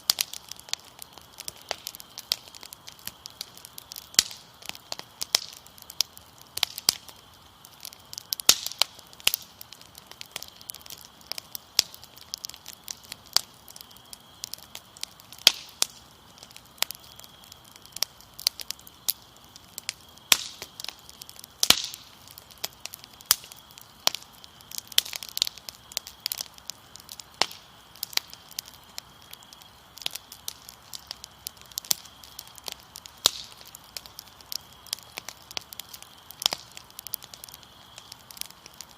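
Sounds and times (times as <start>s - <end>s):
fire crackling and popping: 0.0s - 38.9s
crickets trilling: 0.1s - 38.9s.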